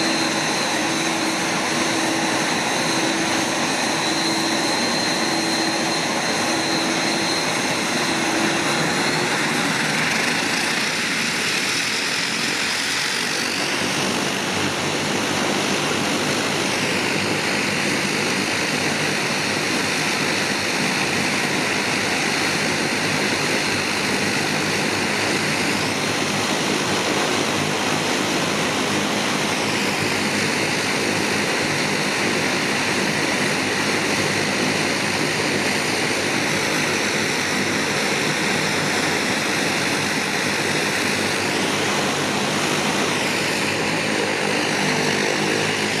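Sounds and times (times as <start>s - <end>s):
turboprop engines running: 0.0s - 46.0s.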